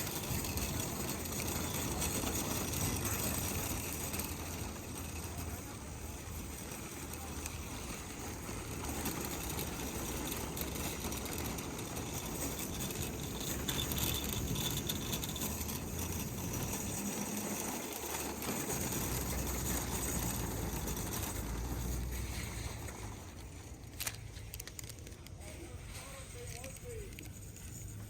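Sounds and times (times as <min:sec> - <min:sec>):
shopping cart rolling over pavement: 0:00.0 - 0:28.0.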